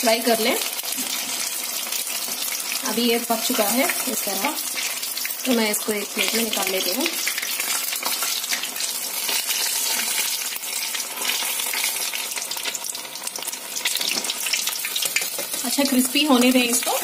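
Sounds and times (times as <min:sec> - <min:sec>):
fish deep-frying in oil: 0:00.0 - 0:17.0.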